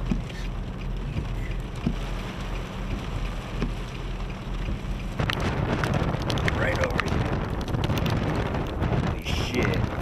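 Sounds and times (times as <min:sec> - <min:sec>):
wind and rain against car: 0:00.0 - 0:10.0.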